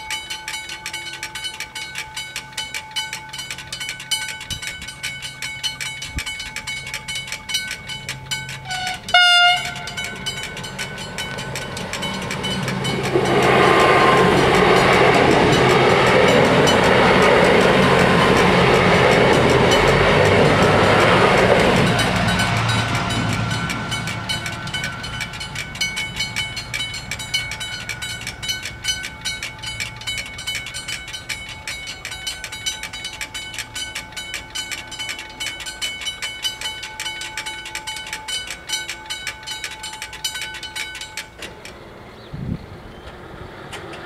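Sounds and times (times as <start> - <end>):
crossing bells ringing: 0.0 - 41.8
diesel railcar rumble: 0.0 - 44.0.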